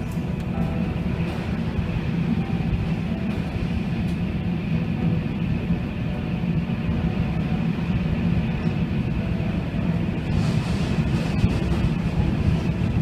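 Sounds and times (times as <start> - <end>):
strong wind roaring: 0.0 - 13.0.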